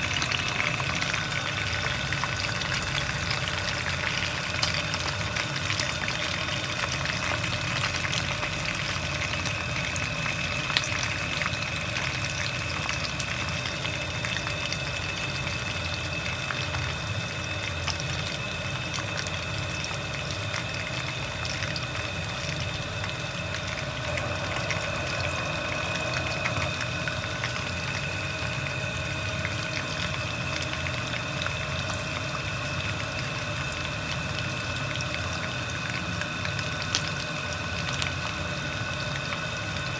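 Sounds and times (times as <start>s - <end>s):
faint steady hum: 0.0s - 39.9s
oil sizzling and crackling: 0.0s - 39.9s.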